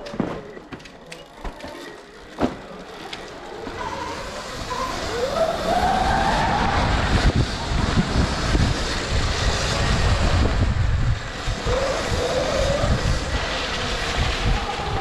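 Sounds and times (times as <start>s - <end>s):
tyre and track noise: 0.0s - 15.0s.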